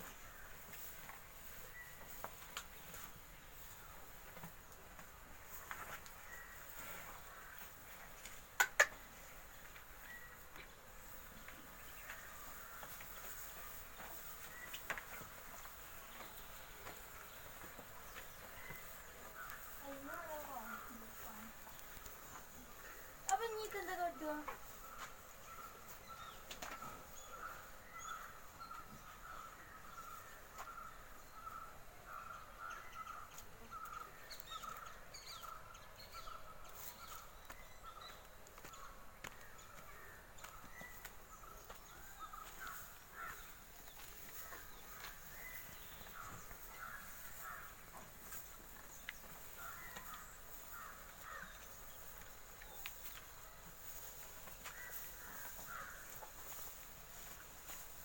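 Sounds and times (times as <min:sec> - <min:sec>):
birds calling faintly: 0:00.0 - 0:58.0.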